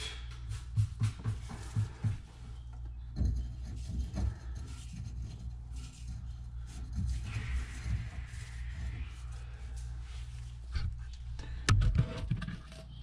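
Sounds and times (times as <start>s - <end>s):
steady low hum: 0.0s - 13.0s
metal pipe threads scraping: 1.6s - 13.0s.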